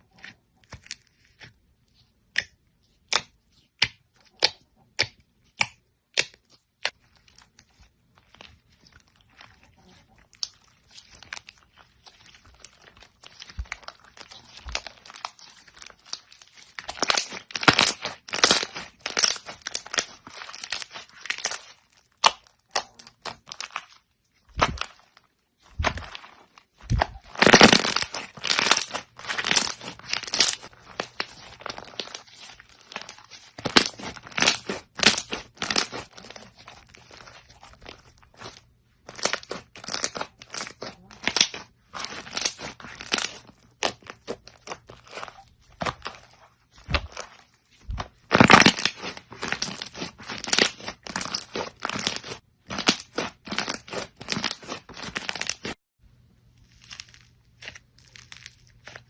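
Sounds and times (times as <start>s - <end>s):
crunchy slime crackling and popping: 0.0s - 55.8s, 56.4s - 59.0s.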